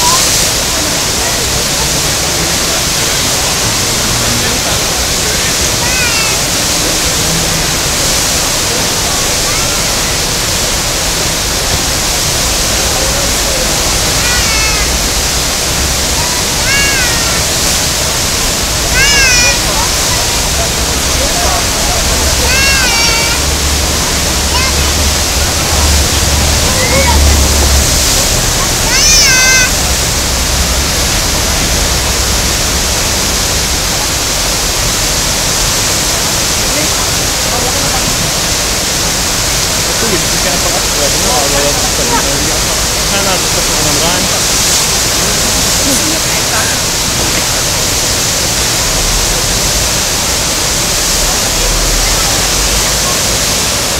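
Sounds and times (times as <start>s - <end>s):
whitewater rushing: 0.0s - 53.9s.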